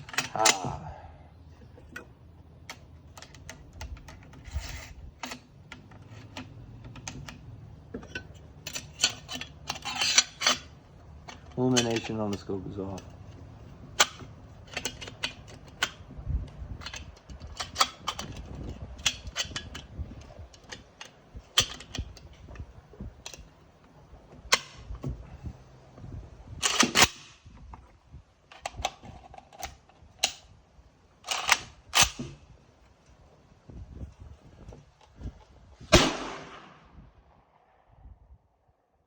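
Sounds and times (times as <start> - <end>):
sharp clicks and knocks: 0.0 - 0.8, 1.6 - 30.6, 31.2 - 33.2.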